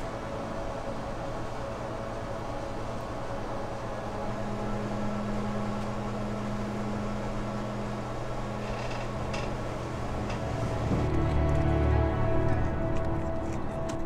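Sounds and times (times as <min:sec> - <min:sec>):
low hum of held tones: 0:00.0 - 0:14.0.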